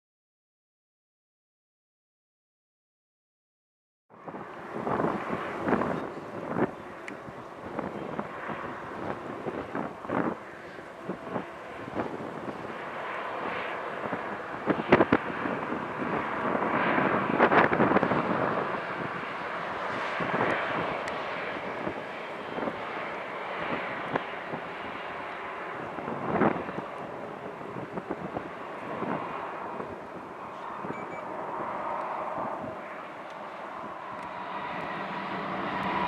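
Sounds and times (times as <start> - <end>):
jet engines running: 4.1 - 36.0.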